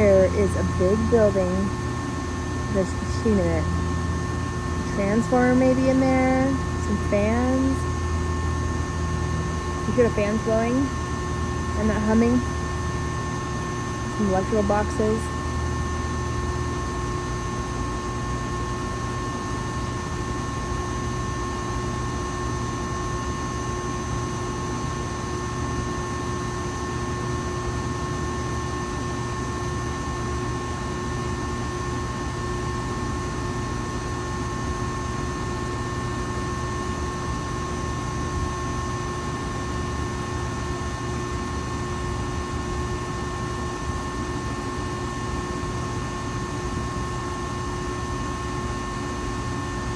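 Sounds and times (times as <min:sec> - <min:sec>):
cooling fans blowing: 0:00.0 - 0:49.9
electrical hum: 0:00.0 - 0:49.9.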